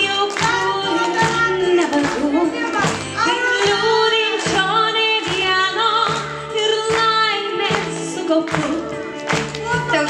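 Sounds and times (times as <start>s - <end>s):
women singing over a beat: 0.0s - 10.0s.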